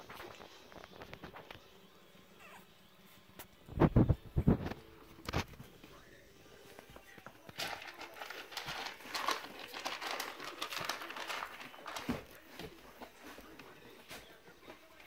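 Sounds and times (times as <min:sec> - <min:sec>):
paws scrabbling through pellet litter: 0:02.4 - 0:15.0.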